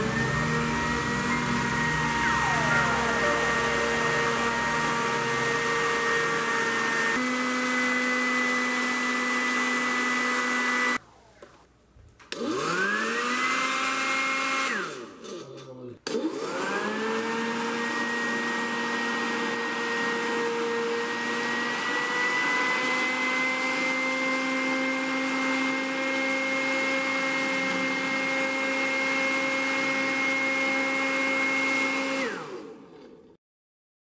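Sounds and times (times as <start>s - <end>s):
vacuum motor whine: 0.0s - 11.0s, 12.3s - 15.2s, 16.1s - 33.2s.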